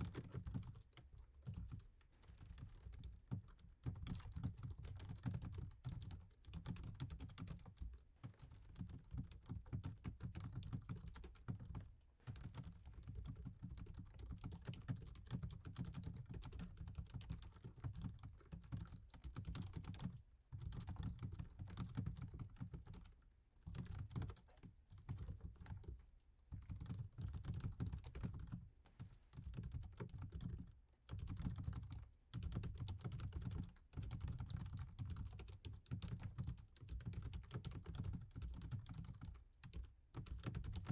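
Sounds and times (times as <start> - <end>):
typing on laptop keyboard: 0.0 - 40.9.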